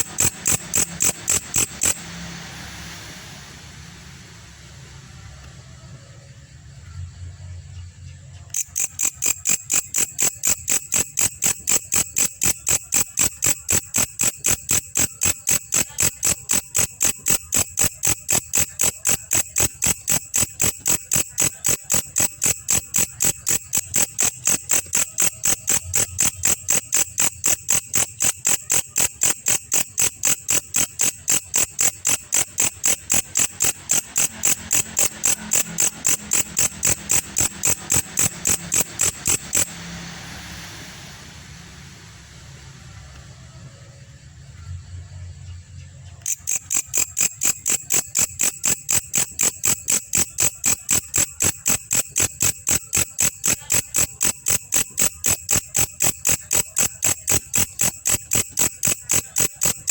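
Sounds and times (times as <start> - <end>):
insect calling with sharp ticks: 0.0 - 4.7, 8.4 - 41.1, 46.2 - 59.9.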